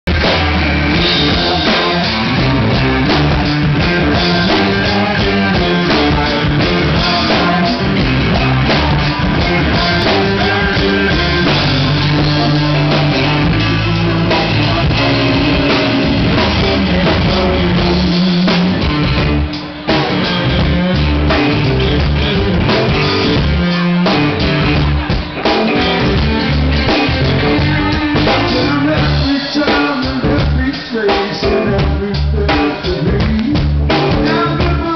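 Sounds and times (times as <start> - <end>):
bass: 0.0 - 34.9
drum kit: 0.0 - 34.9
electric guitar: 0.0 - 34.9
man singing: 0.1 - 24.7, 25.3 - 34.9.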